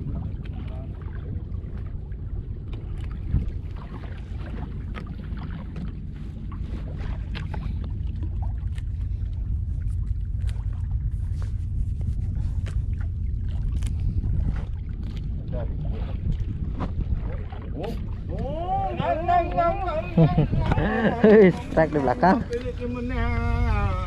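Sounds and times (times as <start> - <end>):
water splashes: 0.0 - 24.0
wind and water rumble: 0.0 - 24.0.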